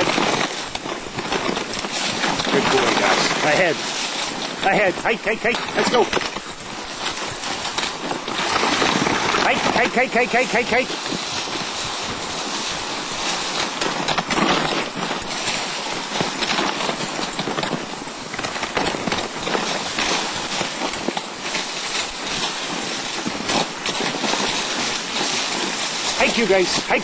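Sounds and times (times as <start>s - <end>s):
sled knocking and rattling: 0.0s - 27.0s
sled runners hissing over snow: 0.0s - 27.0s.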